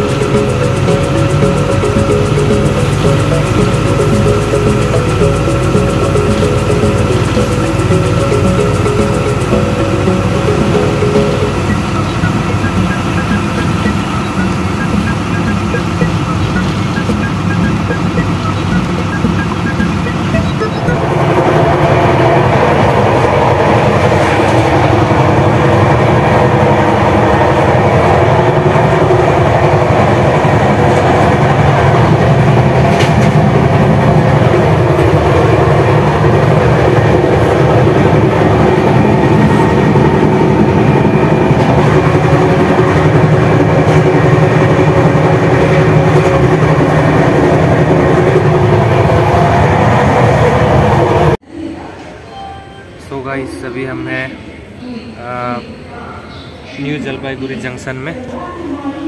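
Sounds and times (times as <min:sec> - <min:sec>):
train rumbling on rails: 0:00.0 - 0:51.4.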